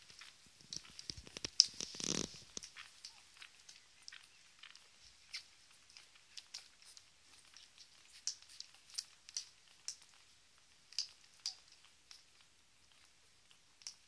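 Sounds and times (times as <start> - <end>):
puppies suckling wet smacking: 0.0 - 14.0.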